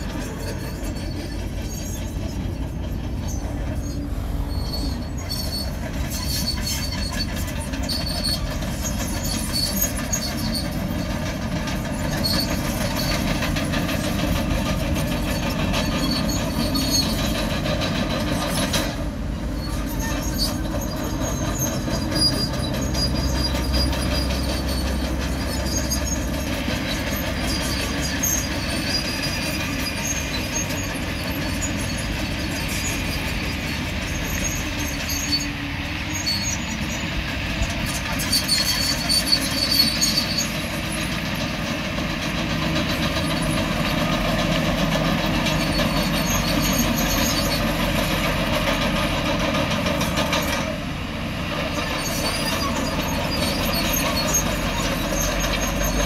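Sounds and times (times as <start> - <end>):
bulldozer diesel engine: 0.0 - 56.0
steel tracks squealing and clanking: 0.0 - 56.0.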